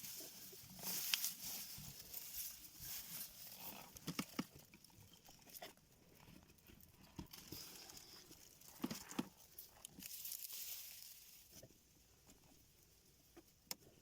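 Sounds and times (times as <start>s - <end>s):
quiet hiss: 0.0s - 14.0s.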